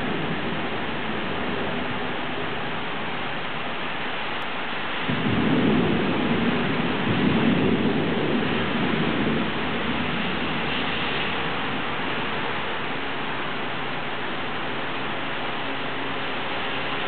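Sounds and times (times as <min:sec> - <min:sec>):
thunder rumbling: 0:00.0 - 0:04.0, 0:04.6 - 0:17.0
heavy rain hissing: 0:00.0 - 0:17.0.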